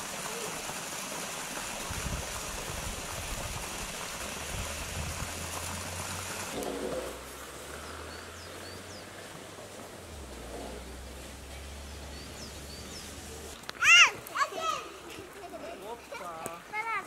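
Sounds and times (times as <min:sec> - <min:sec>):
running water trickling and splashing: 0:00.0 - 0:17.0.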